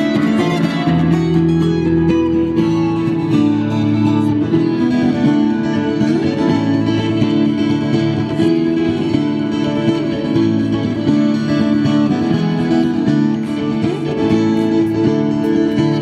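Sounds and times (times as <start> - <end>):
acoustic guitar and keyboard tune: 0.0 - 16.0.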